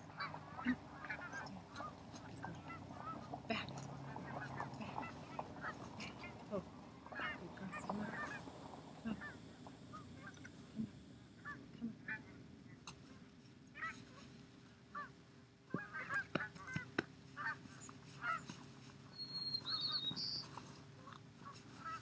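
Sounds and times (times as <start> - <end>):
geese honking overhead: 0.0 - 12.4, 13.0 - 14.3, 14.9 - 22.0.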